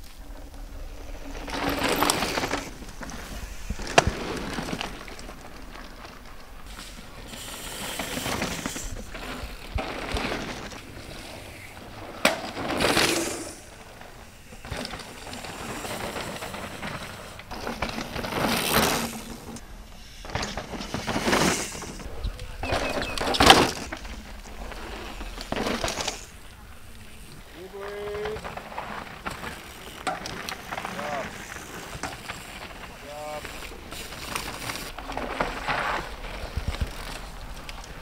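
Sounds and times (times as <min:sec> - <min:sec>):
bike tyres skidding through dirt: 0:00.0 - 0:38.0.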